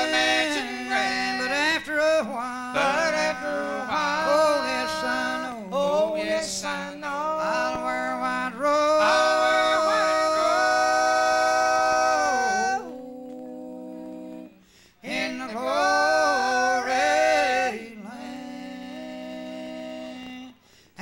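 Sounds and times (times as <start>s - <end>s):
male vocal group singing harmony: 0.0s - 21.0s.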